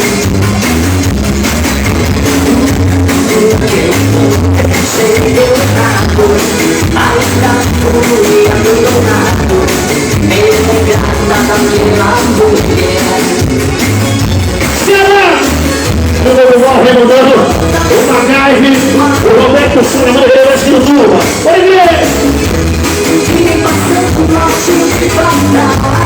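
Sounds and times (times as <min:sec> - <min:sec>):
dance music with pulsing bass: 0:00.0 - 0:26.0
person singing: 0:01.8 - 0:26.0.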